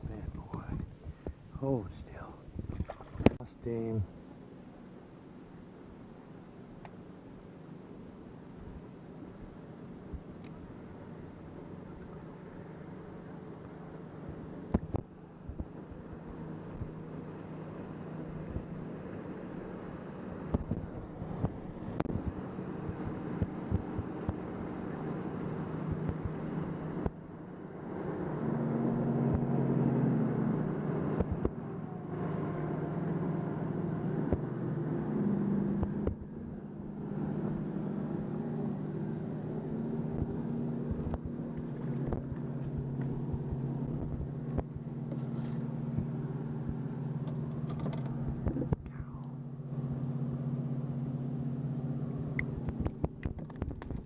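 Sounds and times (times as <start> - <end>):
boat motor humming: 2.4 - 54.0.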